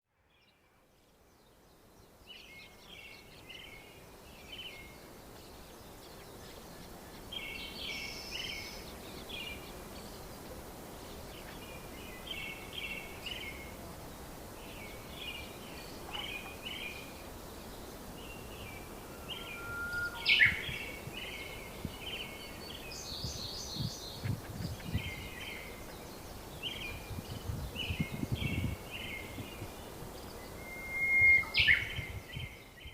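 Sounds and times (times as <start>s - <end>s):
outdoor background noise: 0.1s - 32.9s
small birds chirping: 0.4s - 32.9s.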